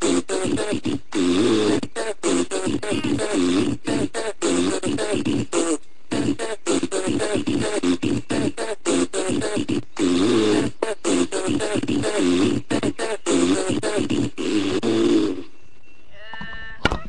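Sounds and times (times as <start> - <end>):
mouth-made fart noises: 0.0 - 15.5
short buzzy call: 0.0 - 15.5.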